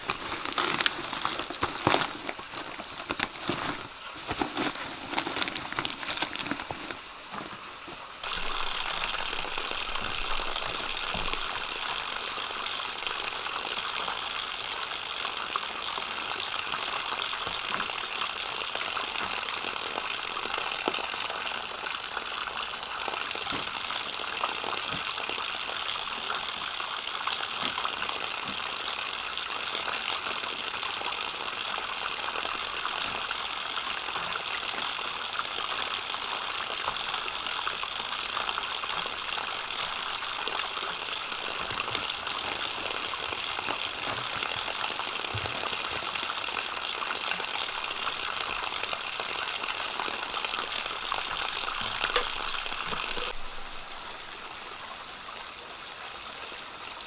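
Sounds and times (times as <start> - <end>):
outdoor ambience hiss: 0.0 - 57.0.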